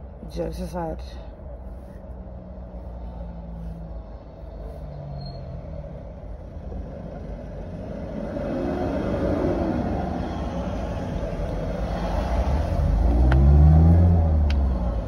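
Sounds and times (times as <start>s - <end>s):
passing vehicles rumbling: 0.0s - 15.0s.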